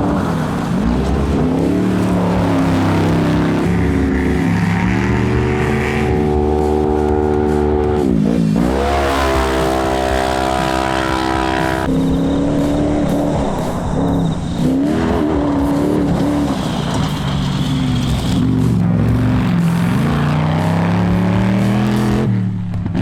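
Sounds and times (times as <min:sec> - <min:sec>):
utility vehicle engine revving: 0:00.0 - 0:23.0.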